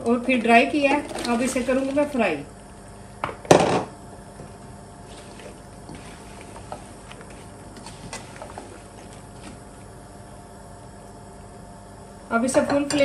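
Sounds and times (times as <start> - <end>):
low hiss of frying: 0.1 - 13.0.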